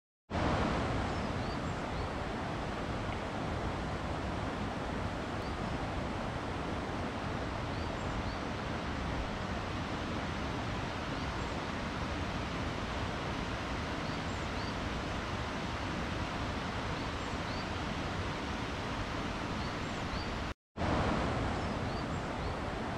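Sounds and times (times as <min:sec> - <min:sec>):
river rushing: 0:00.3 - 0:22.9.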